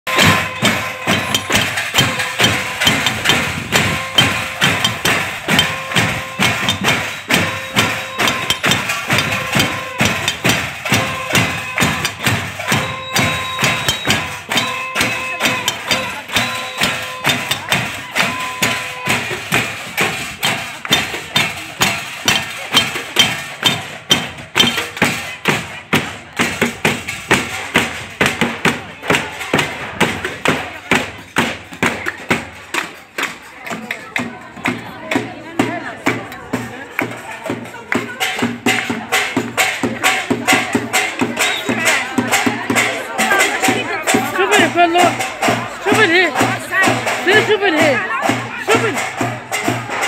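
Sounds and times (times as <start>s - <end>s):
voices chanting: 0.0s - 31.3s, 33.2s - 50.0s
sharp rhythmic knocks: 0.1s - 50.0s.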